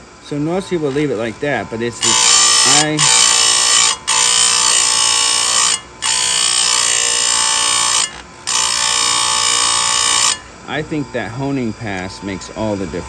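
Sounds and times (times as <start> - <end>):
grinding wheel whine on steel: 0.0 - 13.0.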